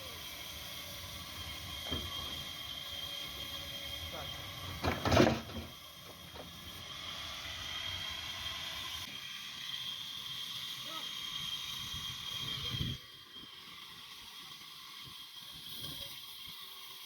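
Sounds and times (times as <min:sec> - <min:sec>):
sawmill machinery whining: 0:00.0 - 0:17.0.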